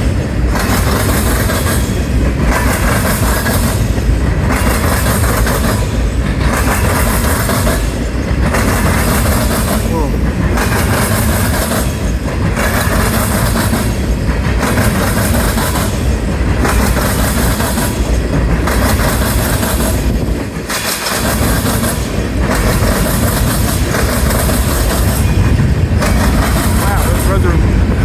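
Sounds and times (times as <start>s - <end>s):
freight train wheels clattering: 0.0s - 28.0s.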